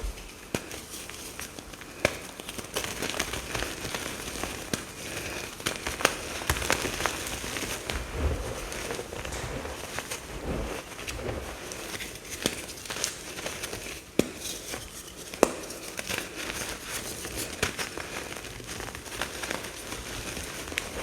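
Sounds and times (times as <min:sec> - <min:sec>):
powder crushing and crackling: 0:00.0 - 0:21.0.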